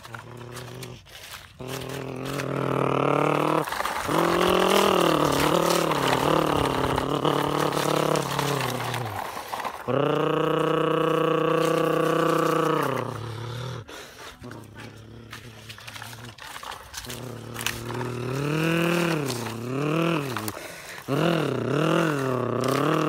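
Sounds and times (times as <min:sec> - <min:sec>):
person making engine noise: 0:00.0 - 0:23.0.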